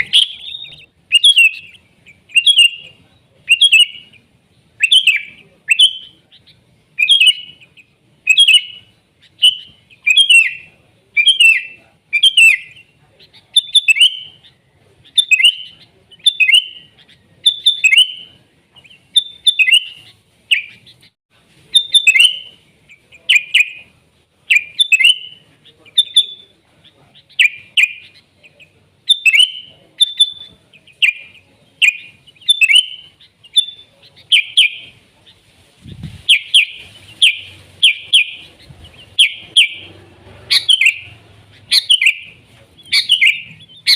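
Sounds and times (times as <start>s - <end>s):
bulbul chirping song: 0.0s - 43.9s.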